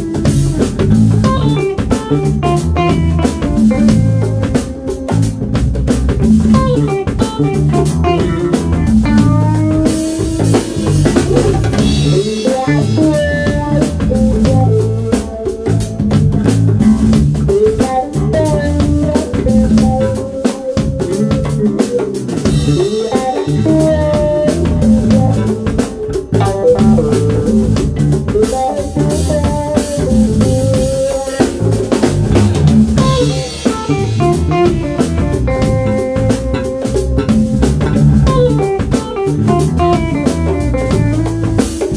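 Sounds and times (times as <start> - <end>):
bass guitar: 0.0 - 41.9
drum kit: 0.0 - 41.9
electric guitar: 0.0 - 41.9.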